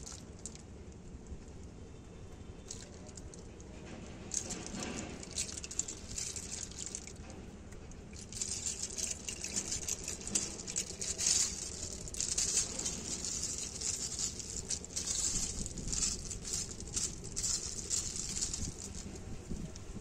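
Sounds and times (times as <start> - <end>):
snail shells clicking and rattling: 0.0 - 1.0, 2.6 - 20.0.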